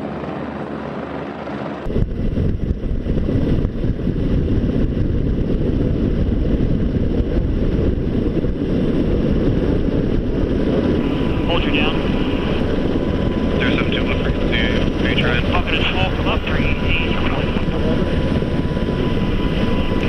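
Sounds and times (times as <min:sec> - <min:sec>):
helicopter rotor and turbine: 0:00.0 - 0:20.0
rough low rumble: 0:00.0 - 0:20.0
wind buffeting microphone: 0:00.0 - 0:20.0.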